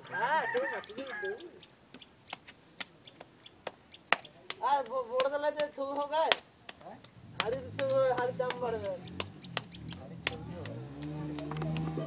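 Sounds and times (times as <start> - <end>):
wet clay slapped between hands: 2.3 - 12.0.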